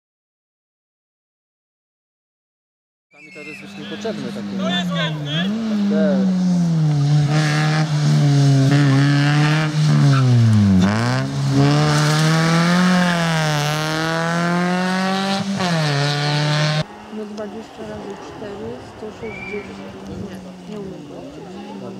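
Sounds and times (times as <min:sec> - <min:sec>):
rally car engine revving: 0:03.8 - 0:21.9.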